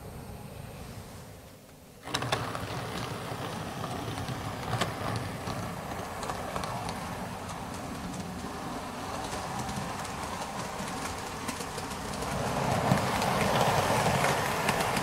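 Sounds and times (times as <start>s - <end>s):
train engine running: 2.0s - 15.0s.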